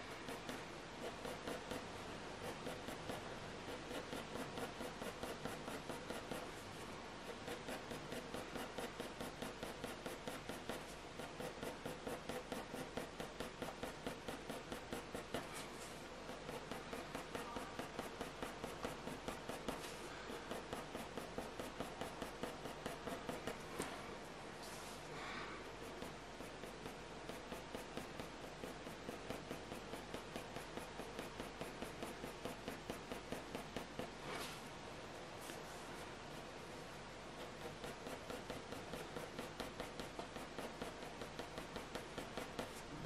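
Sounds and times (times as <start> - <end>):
pencil scratching on paper: 0.0 - 43.0.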